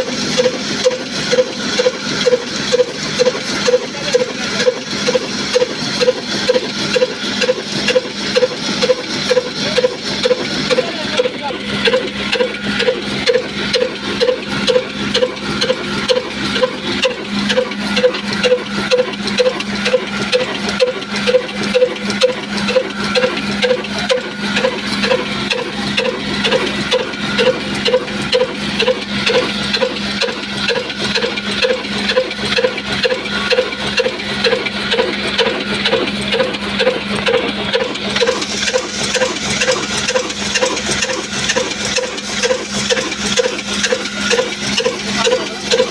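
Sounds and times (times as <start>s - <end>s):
diesel engine beating steadily: 0.0s - 45.9s.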